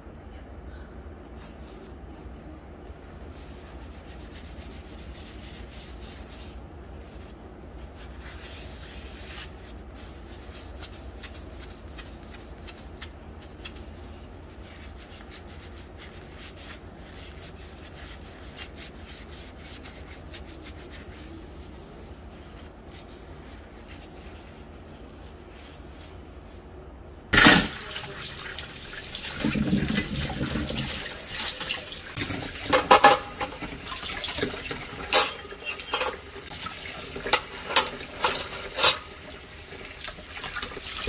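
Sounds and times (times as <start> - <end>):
low steady hum: 0.0 - 41.0
rubbing and scrubbing: 1.4 - 26.6, 27.4 - 41.0.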